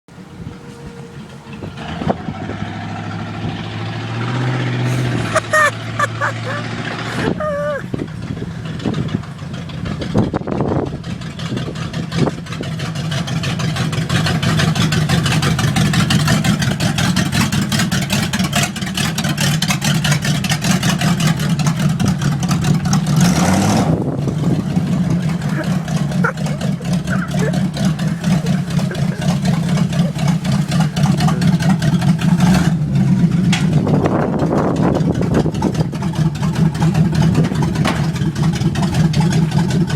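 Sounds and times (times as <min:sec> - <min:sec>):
truck engine rumbling: 0:00.1 - 0:39.9.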